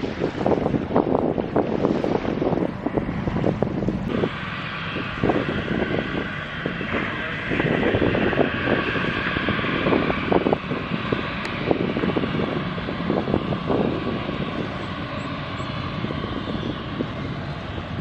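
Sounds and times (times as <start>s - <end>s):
jet airliner engines rushing: 0.0s - 18.0s.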